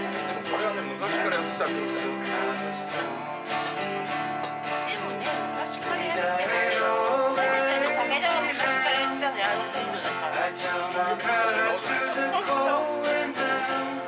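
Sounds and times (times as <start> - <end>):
person singing: 0.0 - 4.1, 4.7 - 14.0
acoustic guitar strummed: 0.0 - 14.0.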